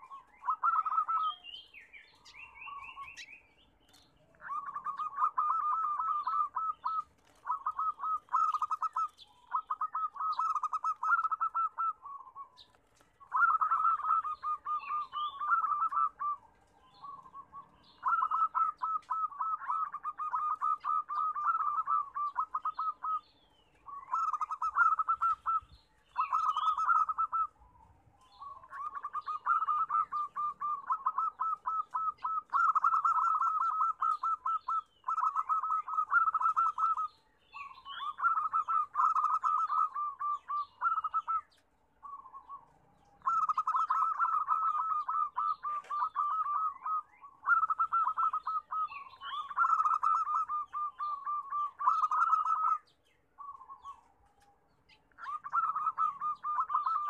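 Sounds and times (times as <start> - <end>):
dove trilled cooing: 0.0 - 57.0.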